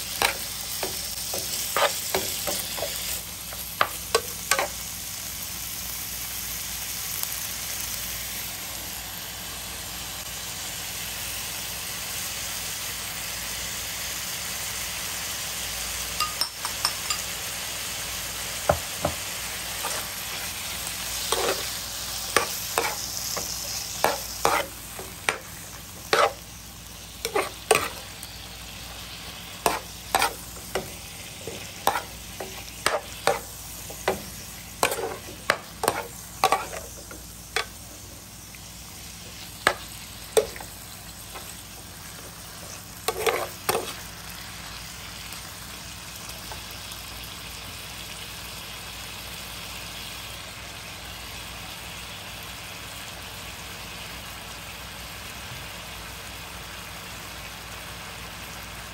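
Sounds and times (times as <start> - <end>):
beef sizzling in a pan: 0.0 - 58.9.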